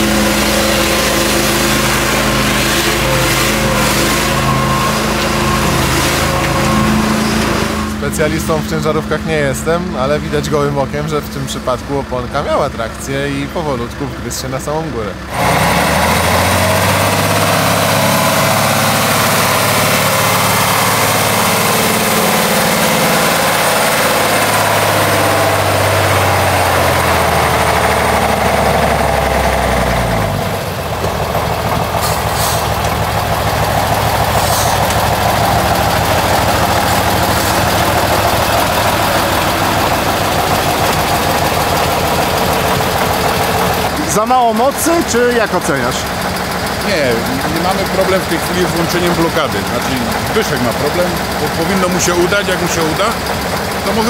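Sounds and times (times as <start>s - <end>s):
truck engine running under load: 0.0s - 54.0s.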